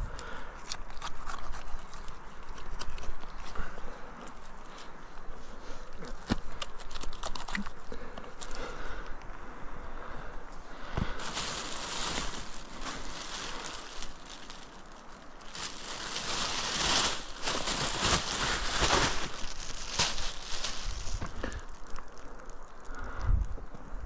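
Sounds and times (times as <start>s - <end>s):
close rustling and crunching: 0.0s - 9.3s, 10.5s - 23.9s.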